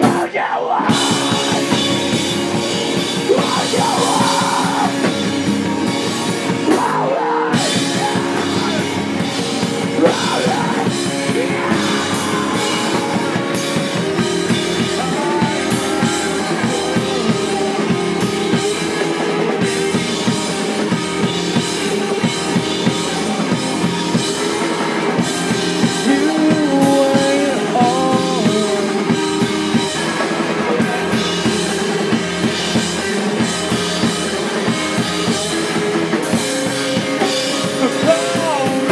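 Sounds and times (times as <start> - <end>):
drum kit beat: 0.0 - 38.9
electric guitars: 0.0 - 38.9
bass guitar: 0.9 - 38.9.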